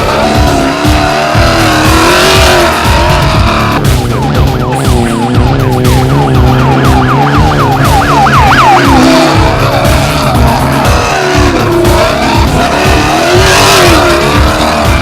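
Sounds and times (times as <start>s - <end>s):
steady music: 0.0s - 15.0s
siren-like yelp: 1.3s - 15.0s.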